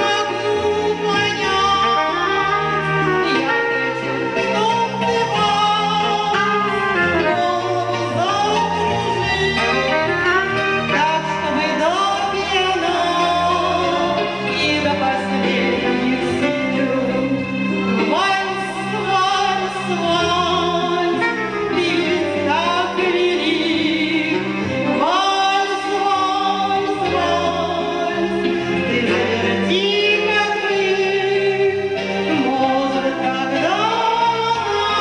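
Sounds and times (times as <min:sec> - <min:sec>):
instrumental accompaniment: 0:00.0 - 0:35.0
woman singing a slow waltz: 0:00.0 - 0:35.0.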